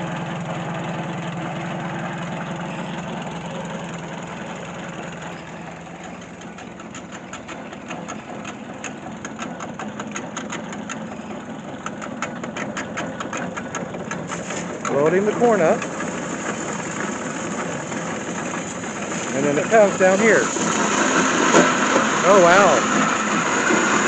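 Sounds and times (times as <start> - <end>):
tractor engine running: 0.0 - 24.0
rapid clicking and rattling: 1.9 - 24.0.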